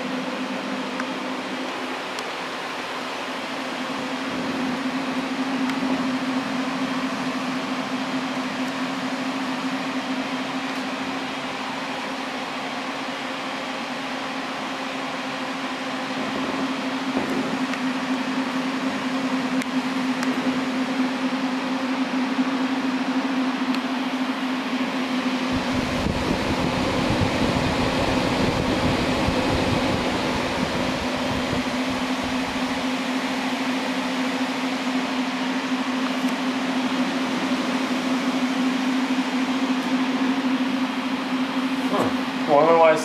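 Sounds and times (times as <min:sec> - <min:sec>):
cooling fans humming: 0:00.0 - 0:43.0.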